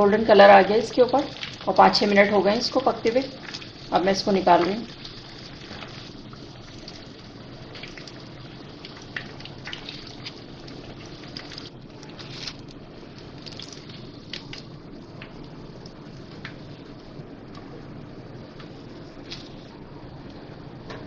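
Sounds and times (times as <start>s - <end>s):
hot oil sizzling: 0.0s - 17.3s
oil crackles and pops: 0.9s - 21.0s.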